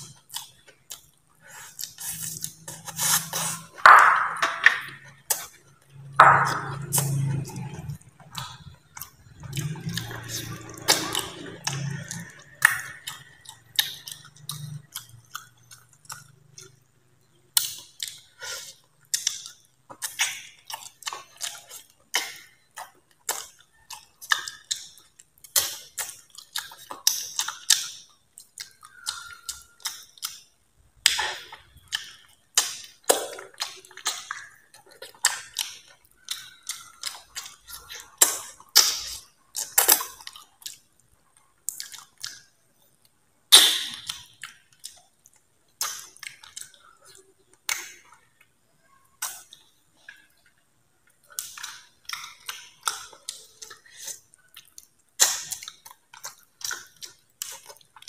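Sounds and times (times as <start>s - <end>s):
man chewing and lip smacking: 0.0s - 58.0s.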